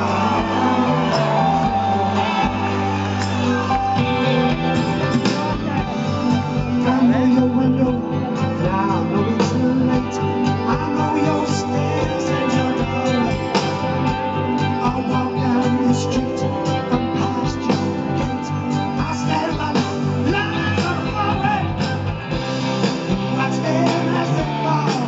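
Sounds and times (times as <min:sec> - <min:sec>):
man singing: 0:00.0 - 0:02.7, 0:03.9 - 0:25.0
live rock band: 0:00.0 - 0:25.0.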